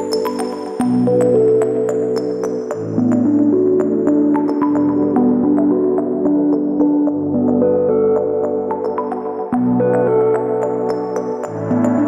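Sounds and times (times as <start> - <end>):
ambient electronic music: 0.0 - 12.0.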